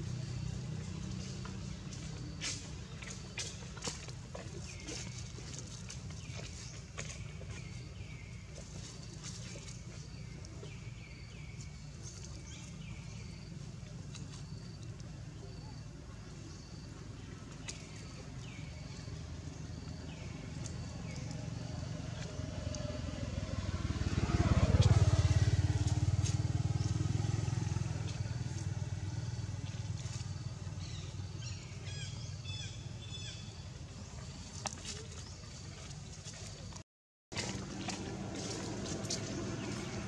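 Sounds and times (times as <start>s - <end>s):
vehicle engine passing by: 0.0s - 40.0s.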